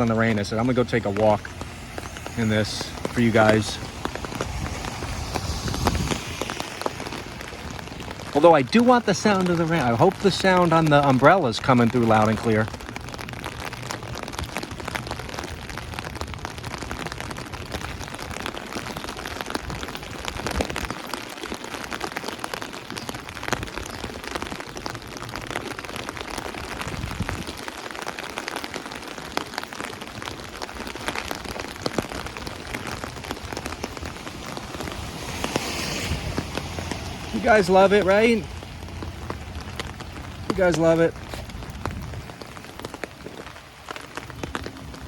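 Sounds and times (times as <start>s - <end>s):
rain on an umbrella: 0.0s - 45.0s.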